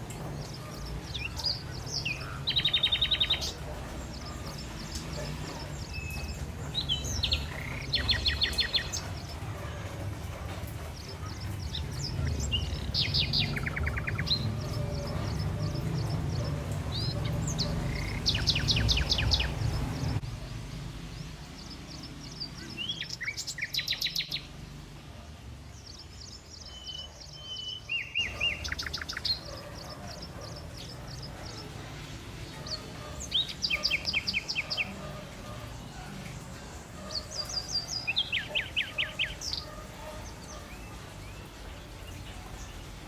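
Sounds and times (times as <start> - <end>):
songbirds singing with trills: 0.0 - 43.0.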